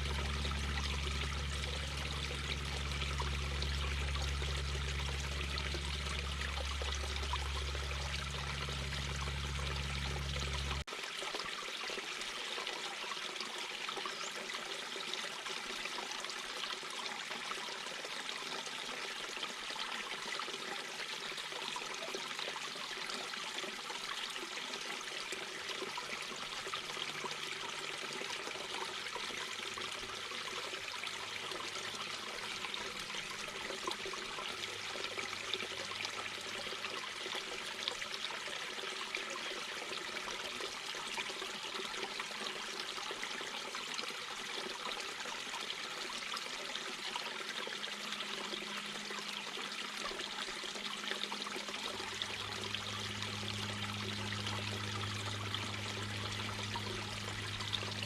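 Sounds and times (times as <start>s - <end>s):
babbling brook: 0.0s - 58.0s.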